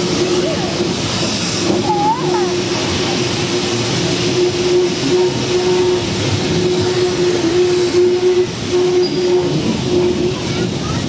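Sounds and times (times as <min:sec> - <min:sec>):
train rushing along track: 0:00.0 - 0:11.0.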